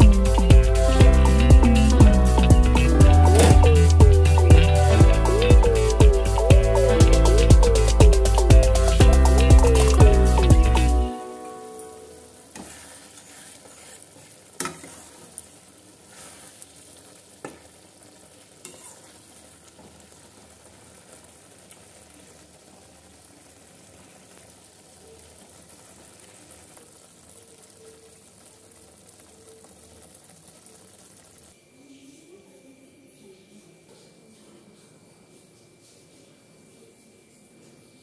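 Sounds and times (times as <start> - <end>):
food sizzling in a pan: 0.0 - 31.7.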